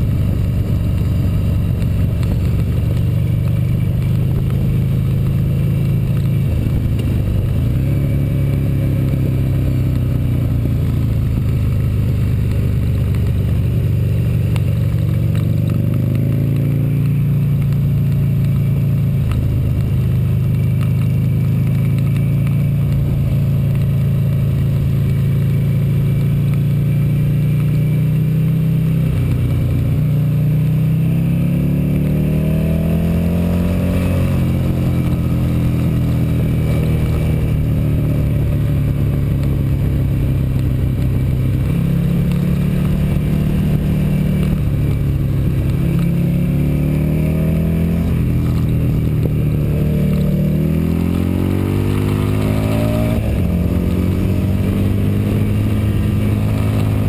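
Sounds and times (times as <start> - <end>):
motorcycle engine under hard throttle: 0.0 - 57.0.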